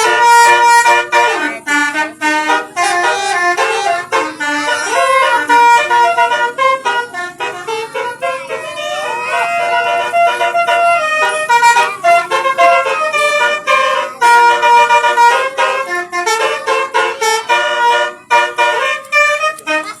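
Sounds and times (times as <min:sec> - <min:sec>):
multi-tone musical horn tune: 0:00.0 - 0:20.0.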